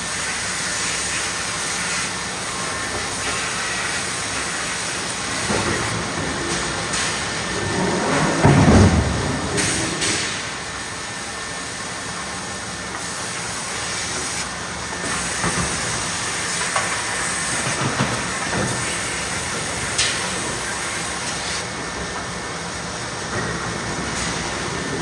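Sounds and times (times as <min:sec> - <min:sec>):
machinery hissing: 0:00.0 - 0:25.0.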